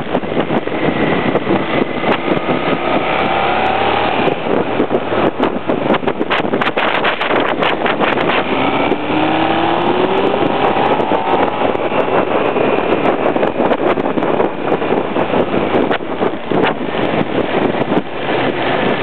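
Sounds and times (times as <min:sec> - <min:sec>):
motorcycle engine: 0:00.0 - 0:19.0
wind buffeting microphone: 0:00.0 - 0:19.0.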